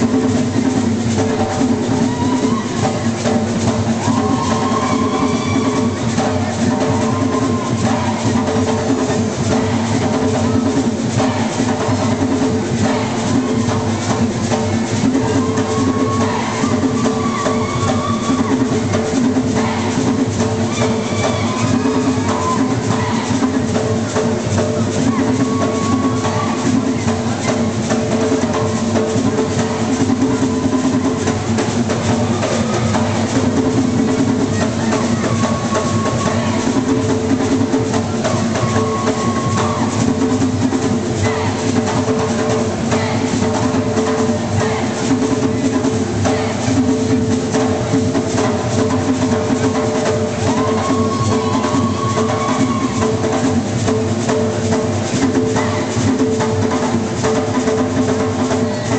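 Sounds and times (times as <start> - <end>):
voices singing: 0.0 - 53.6
barrel hand drums playing: 0.0 - 58.9.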